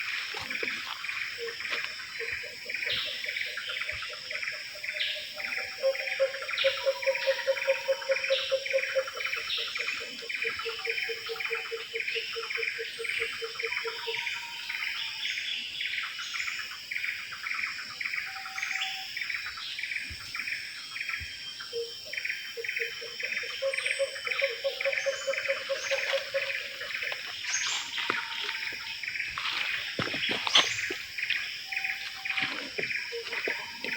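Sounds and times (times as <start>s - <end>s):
high insect drone: 0.0s - 33.9s.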